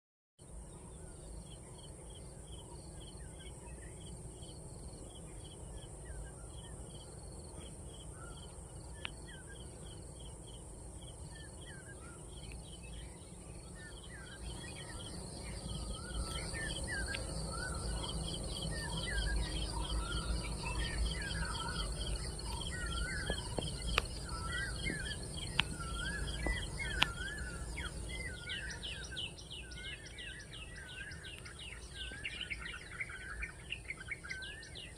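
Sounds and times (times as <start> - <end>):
birds calling and singing: 0.4 - 34.9
insects buzzing: 0.5 - 34.9.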